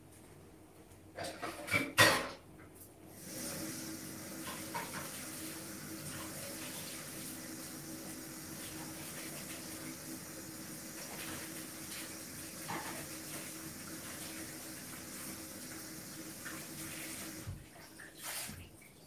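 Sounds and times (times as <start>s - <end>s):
kitchen tap running: 3.1s - 19.0s.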